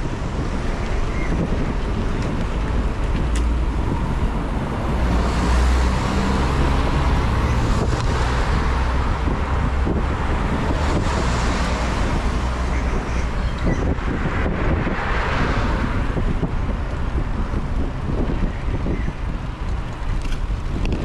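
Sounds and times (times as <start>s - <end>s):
passing car engine and tyres: 0.0s - 21.0s
wind rushing over microphone: 0.0s - 21.0s.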